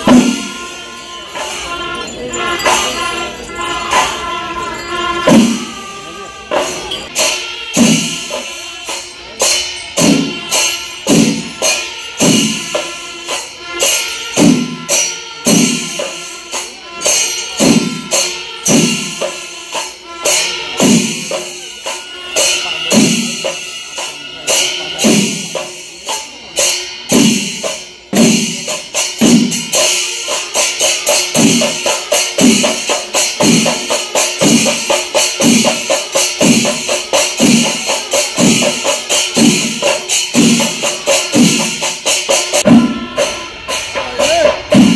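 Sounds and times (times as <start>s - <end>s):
cymbals clashing: 0.0s - 44.9s
drums beating a driving rhythm: 0.0s - 44.9s.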